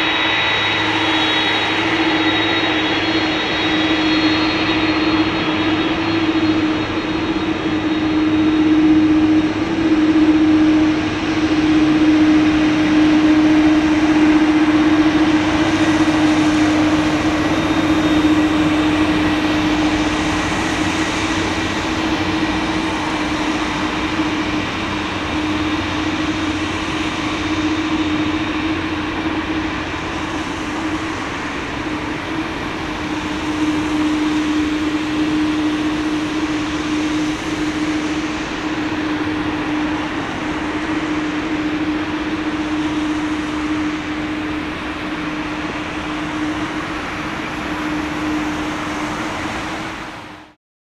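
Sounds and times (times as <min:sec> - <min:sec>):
jet engines roaring: 0:00.0 - 0:50.6.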